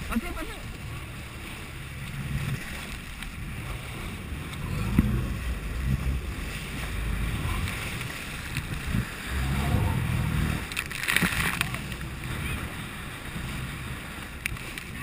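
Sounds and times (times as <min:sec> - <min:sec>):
low rumble: 0:00.0 - 0:15.0
sea water splashing: 0:00.0 - 0:15.0.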